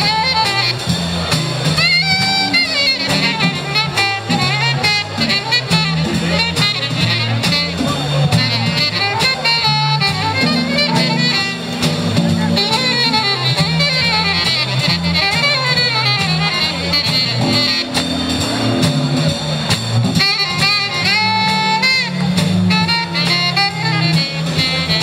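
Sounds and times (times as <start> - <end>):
alto saxophone playing jazz: 0.0 - 25.0
bass line: 0.0 - 25.0
guitar playing: 0.0 - 25.0.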